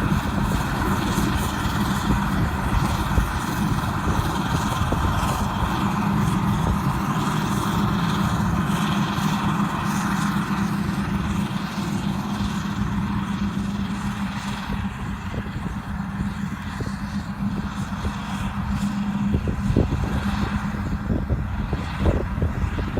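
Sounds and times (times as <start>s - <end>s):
diesel farm machinery engine drone: 0.0s - 22.9s.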